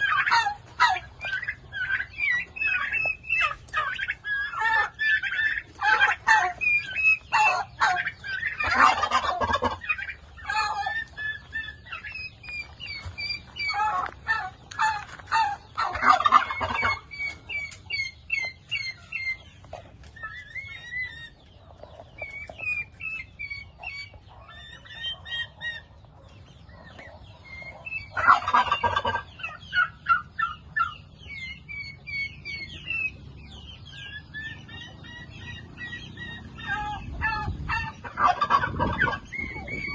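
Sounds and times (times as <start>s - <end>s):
turkeys gobbling: 0.0s - 39.9s.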